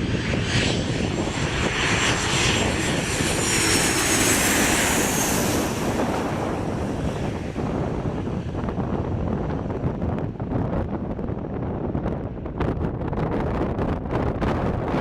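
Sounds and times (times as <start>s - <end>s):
high jet whine: 0.0s - 14.9s
jet engines passing low: 0.0s - 15.0s.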